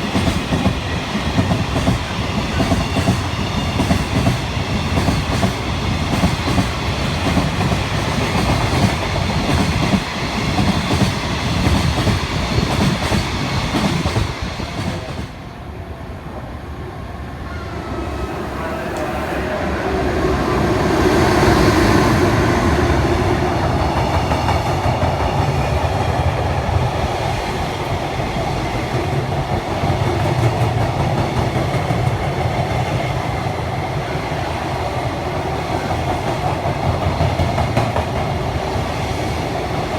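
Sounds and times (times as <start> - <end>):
freight train passing: 0.0 - 39.9.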